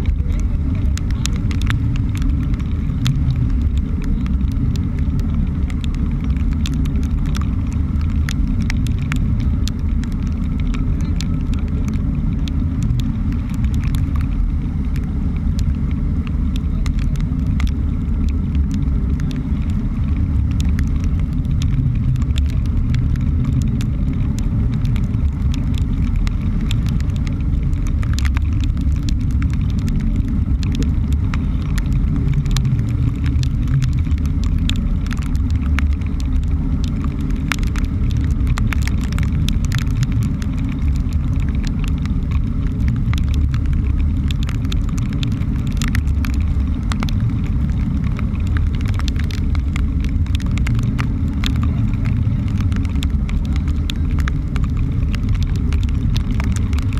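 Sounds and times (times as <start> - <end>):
boat engine and water rumble: 0.0 - 56.9
raindrops ticking on camera: 0.0 - 56.9.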